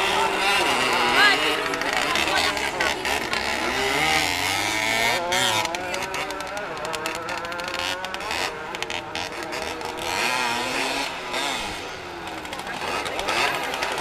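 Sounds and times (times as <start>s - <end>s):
motocross bike engines revving: 0.0s - 14.0s.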